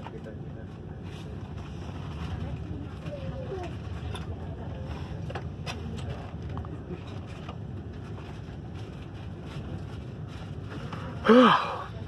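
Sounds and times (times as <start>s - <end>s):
train coach rumbling on rails: 0.0s - 12.0s.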